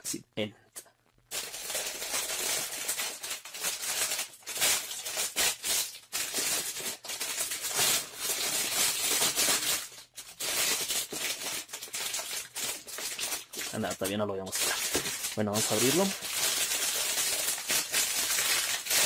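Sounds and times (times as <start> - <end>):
plastic bag crinkling: 1.3 - 19.0.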